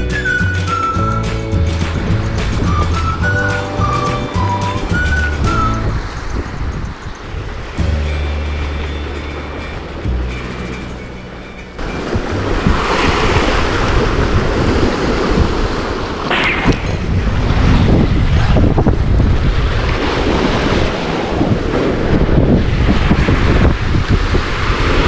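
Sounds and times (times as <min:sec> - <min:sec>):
surf on rocky shore: 0:00.0 - 0:25.0
wind buffeting microphone: 0:00.0 - 0:25.0.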